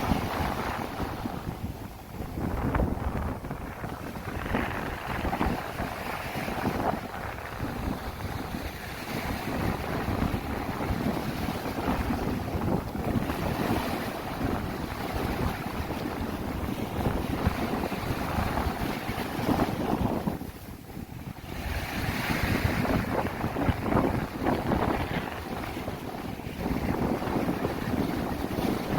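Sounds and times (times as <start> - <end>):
sea waves washing: 0.0 - 28.9
wind gusting against microphone: 0.0 - 28.9.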